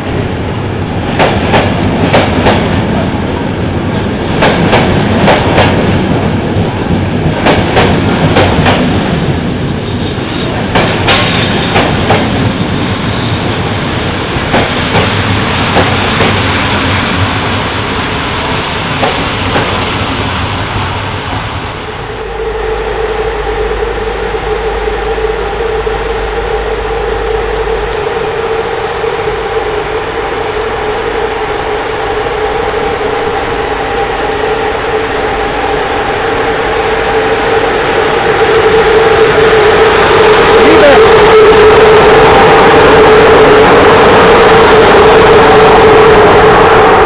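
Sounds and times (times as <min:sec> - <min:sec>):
electric locomotive hum: 0:00.0 - 0:47.0
railway coaches rumbling: 0:00.0 - 0:47.0.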